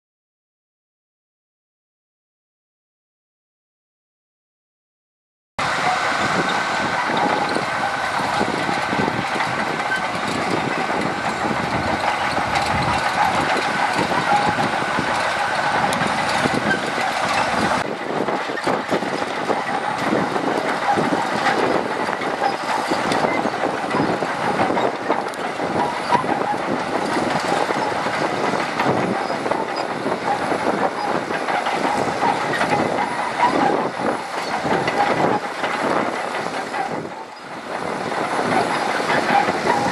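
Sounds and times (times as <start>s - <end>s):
bulldozer engine whining: 5.6s - 39.9s
steel tracks clanking: 5.6s - 39.9s.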